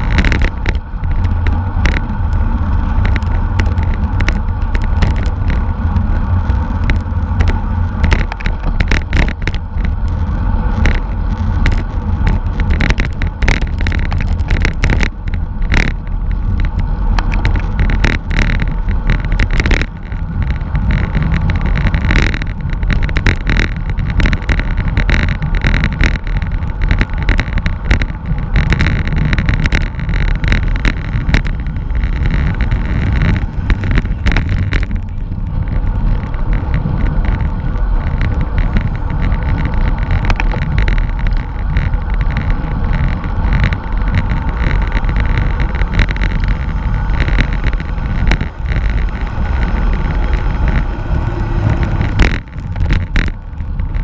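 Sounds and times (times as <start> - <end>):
bicycle clicks and rattles: 0.0 - 54.0
wind rushing over microphone: 0.0 - 54.0.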